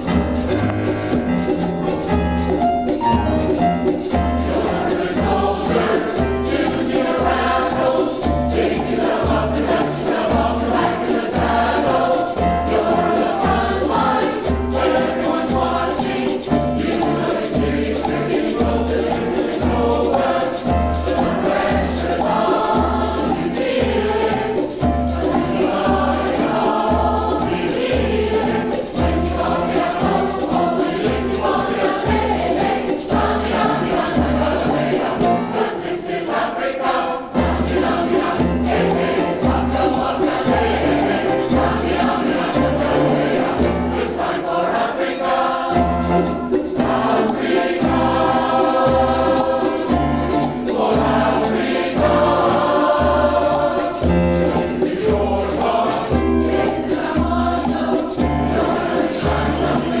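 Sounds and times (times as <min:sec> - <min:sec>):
fast high percussive ticks: 0:00.0 - 0:35.8, 0:37.4 - 0:44.6, 0:45.4 - 1:00.0
choir singing: 0:00.0 - 1:00.0.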